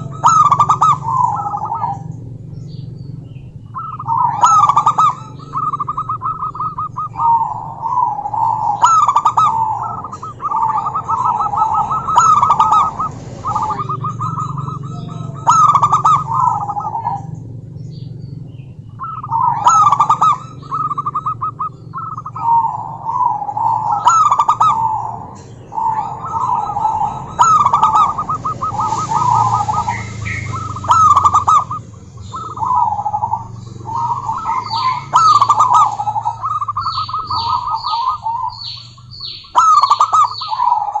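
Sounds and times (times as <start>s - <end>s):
dove trilled cooing: 0.0s - 41.0s.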